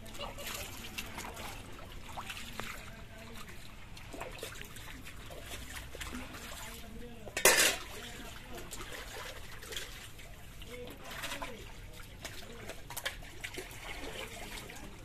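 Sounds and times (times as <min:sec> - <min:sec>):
water trickling and sloshing: 0:00.0 - 0:15.0.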